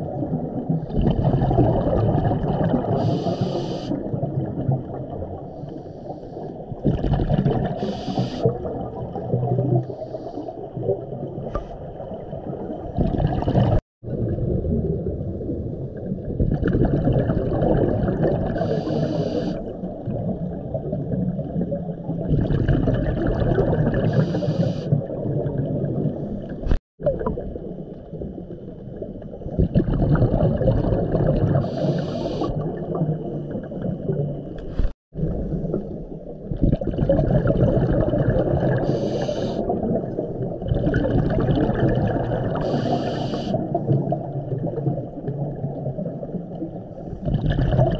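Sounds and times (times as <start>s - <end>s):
underwater exhaled bubbles gurgling: 0.0s - 47.9s.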